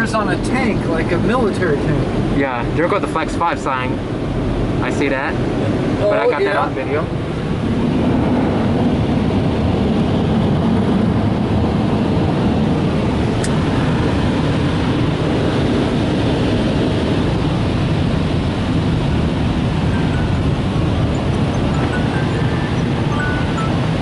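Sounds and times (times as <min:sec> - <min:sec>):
car wash dryer blowers: 0:00.0 - 0:24.0.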